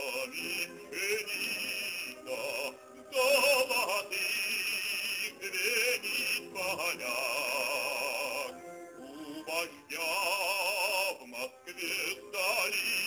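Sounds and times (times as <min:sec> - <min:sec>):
musical accompaniment: 0:00.0 - 0:13.0
voices singing long wavering notes: 0:00.0 - 0:13.0.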